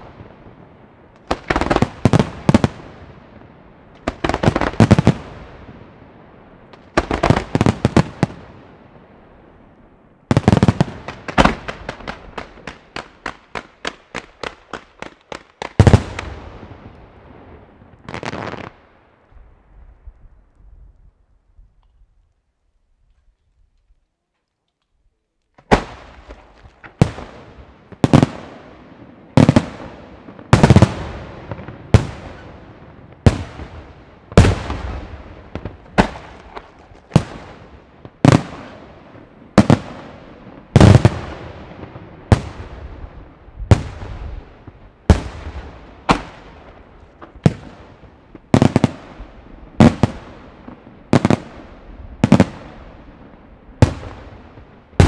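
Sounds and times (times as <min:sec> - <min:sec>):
fireworks bangs: 0:00.0 - 0:09.0, 0:10.3 - 0:18.8, 0:25.6 - 0:55.0.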